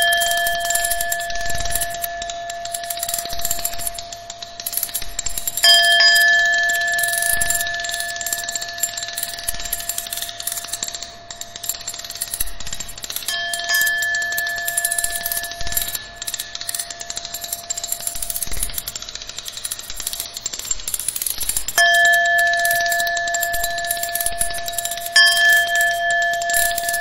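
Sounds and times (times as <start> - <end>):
bell-like ringing tones: 0.0 - 27.0.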